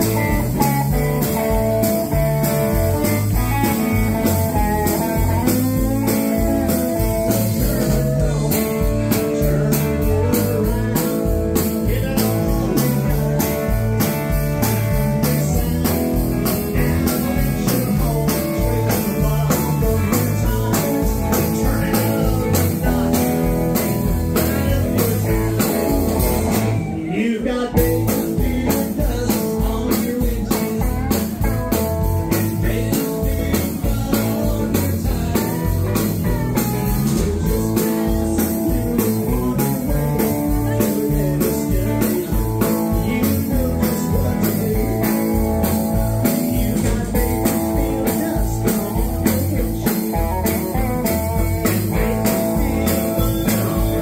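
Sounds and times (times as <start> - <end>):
acoustic guitar: 0.0 - 54.0
drums keeping a steady beat: 0.0 - 54.0
electric guitar lead: 0.0 - 54.0.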